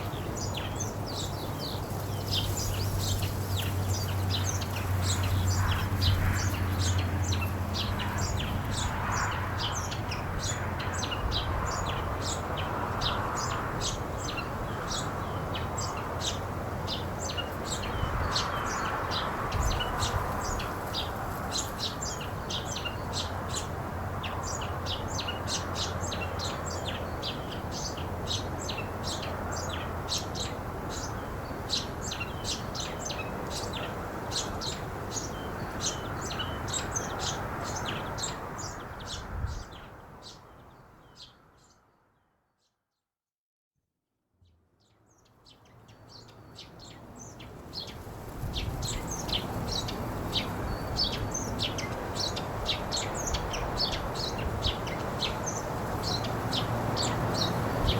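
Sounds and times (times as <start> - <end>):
small birds chirping: 0.0 - 42.0, 44.8 - 57.9.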